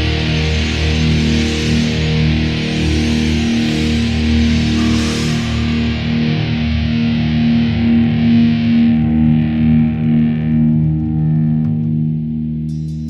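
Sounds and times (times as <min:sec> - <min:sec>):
distorted electric guitar chords: 0:00.0 - 0:13.0.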